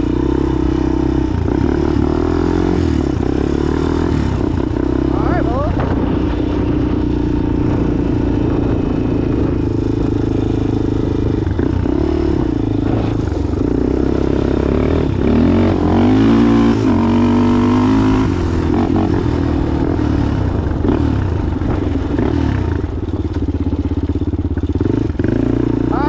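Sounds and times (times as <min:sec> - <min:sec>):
off-road engine revving: 0:00.0 - 0:26.0.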